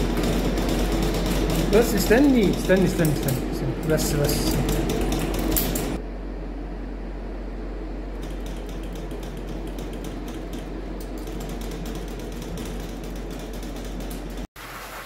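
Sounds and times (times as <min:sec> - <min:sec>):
blower humming: 0:00.0 - 0:15.0.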